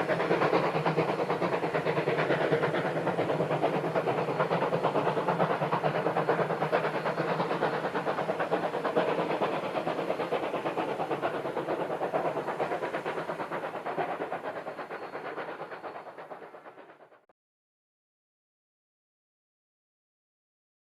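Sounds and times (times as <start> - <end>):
steam locomotive exhaust beating: 0.0 - 17.3.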